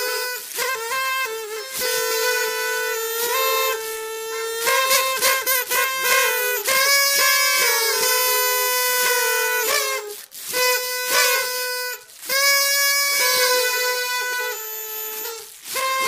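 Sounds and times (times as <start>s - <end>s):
toy party trumpet blasts: 0.0s - 16.0s.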